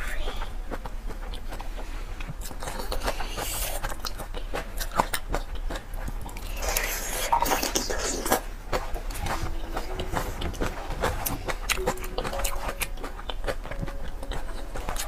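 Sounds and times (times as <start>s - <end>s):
biting and chewing: 0.0s - 15.0s.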